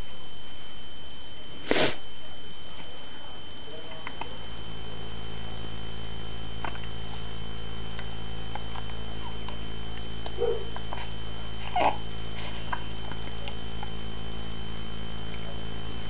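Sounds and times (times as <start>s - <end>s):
faint high whine: 0.0s - 16.0s
steady low hum: 0.0s - 16.0s.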